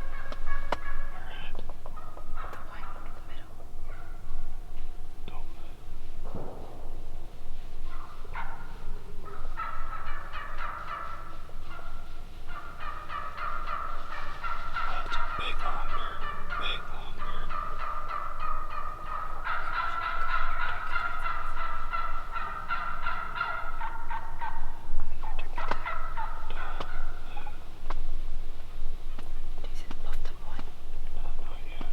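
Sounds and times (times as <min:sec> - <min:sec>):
turkeys gobbling: 0:00.0 - 0:31.9.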